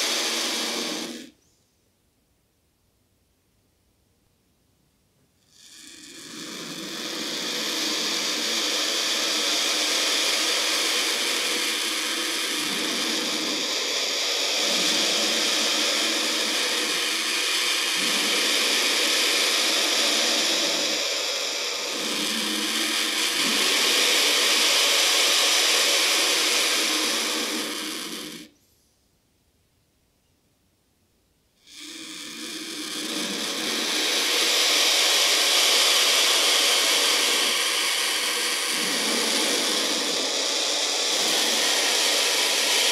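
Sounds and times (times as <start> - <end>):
loud steady hissing: 0.0 - 1.5, 4.5 - 28.6, 31.2 - 42.9.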